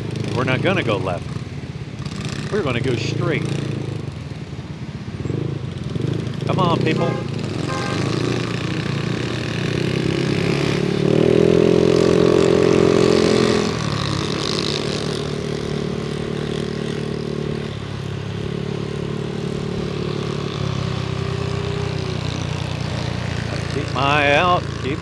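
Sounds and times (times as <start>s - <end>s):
scooter engine running: 0.0s - 25.0s.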